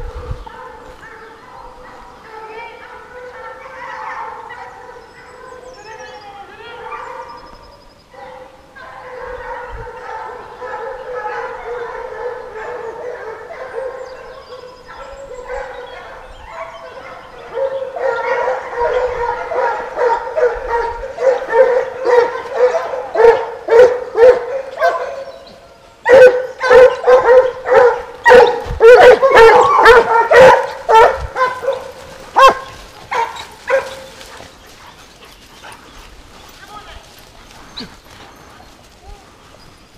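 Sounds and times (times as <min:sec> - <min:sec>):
hounds baying and yelping: 0:00.0 - 0:39.9.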